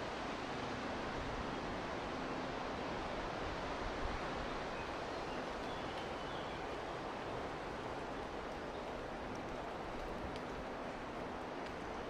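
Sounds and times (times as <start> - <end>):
wind rustling foliage: 0.0 - 12.0.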